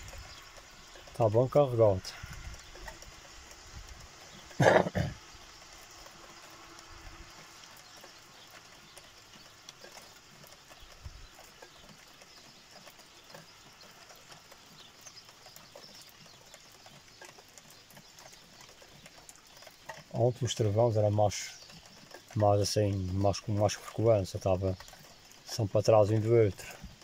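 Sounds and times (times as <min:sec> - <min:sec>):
light rain hiss: 0:00.0 - 0:27.0
rain drops ticking: 0:00.0 - 0:27.0.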